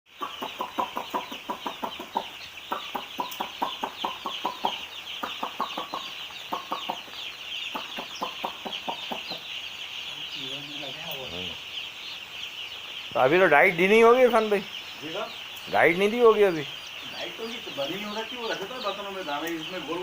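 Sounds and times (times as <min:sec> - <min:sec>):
chickens clucking rapidly: 0:00.1 - 0:20.0
chorus of chicks peeping: 0:00.1 - 0:20.0.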